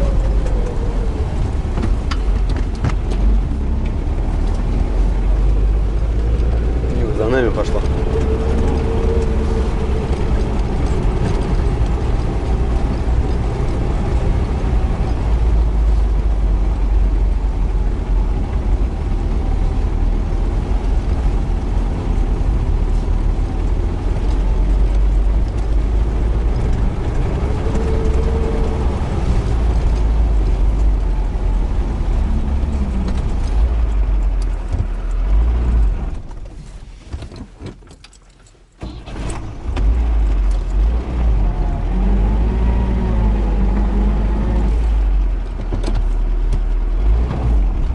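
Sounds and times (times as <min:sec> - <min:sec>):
van engine rumbling: 0:00.0 - 0:47.9.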